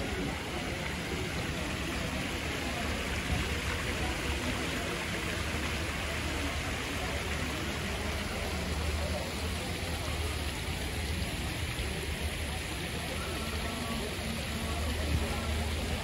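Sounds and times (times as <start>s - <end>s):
steady rain falling: 0.0s - 16.0s
voices faintly murmuring: 0.0s - 16.0s.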